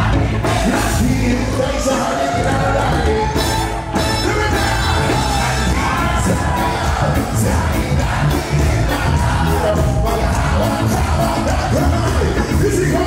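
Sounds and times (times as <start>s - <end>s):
crowd yelling: 0.0s - 13.0s
live rock band playing: 0.0s - 13.0s.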